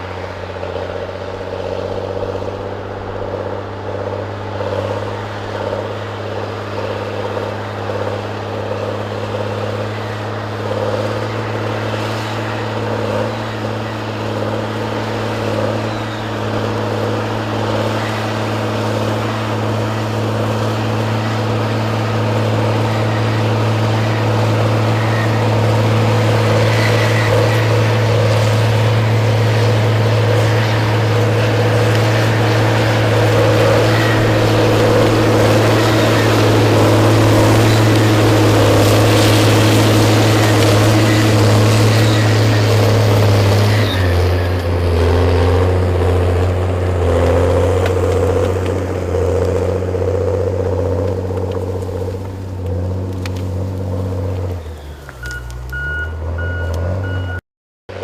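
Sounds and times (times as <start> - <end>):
heavy machine engine droning: 0.0 - 58.0.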